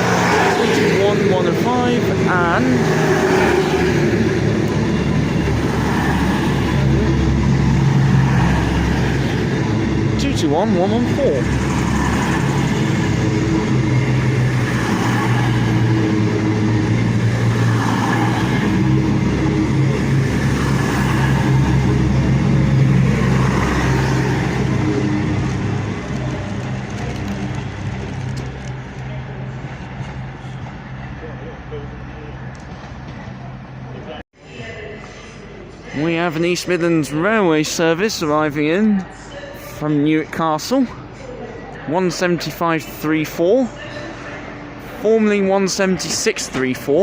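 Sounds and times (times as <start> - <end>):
train diesel engines humming: 0.0 - 47.0.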